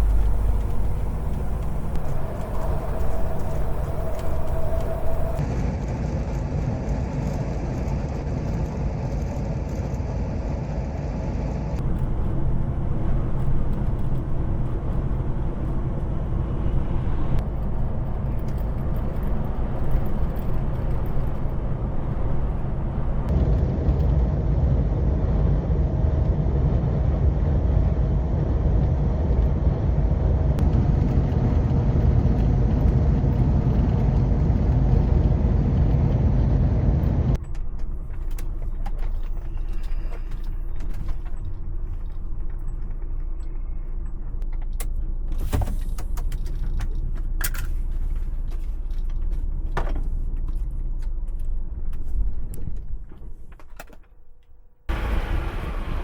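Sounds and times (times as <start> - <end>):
low hum: 0.0 - 5.6, 11.8 - 45.4, 46.8 - 56.0
truck engine and road noise: 0.0 - 56.0.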